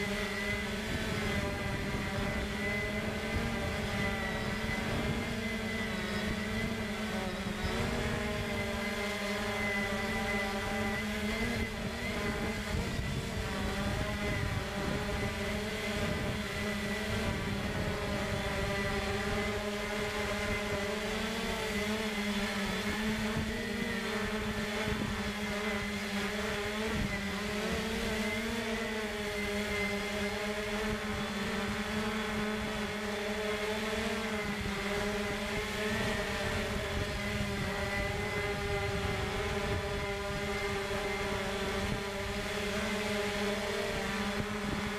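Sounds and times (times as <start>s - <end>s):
drone motors and propellers humming: 0.0s - 44.9s.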